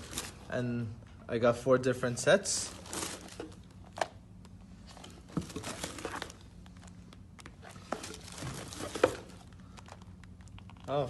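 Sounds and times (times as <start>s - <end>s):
packaging crinkling and rustling: 0.0s - 0.5s, 2.6s - 11.0s.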